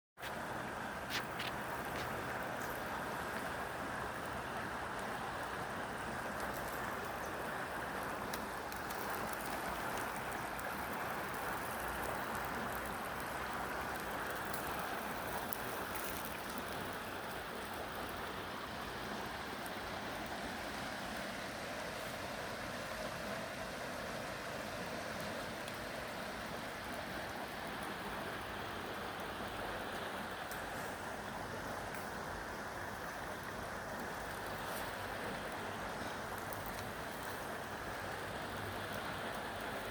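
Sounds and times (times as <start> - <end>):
river water rushing: 0.2 - 39.9.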